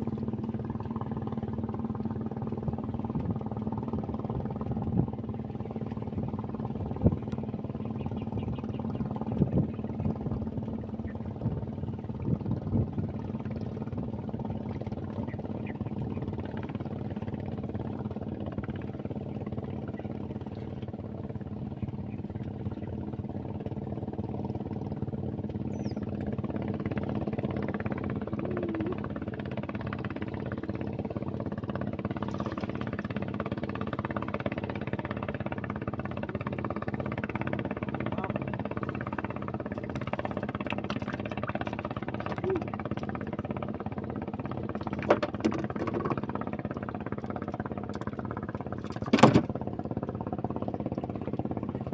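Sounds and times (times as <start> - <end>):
small boat engine droning: 0.0 - 51.9.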